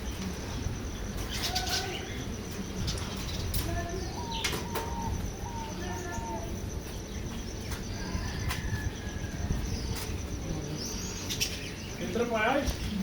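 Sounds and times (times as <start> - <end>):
steady high buzzing tone: 0.0 - 13.0
faint bird calls: 0.1 - 13.0.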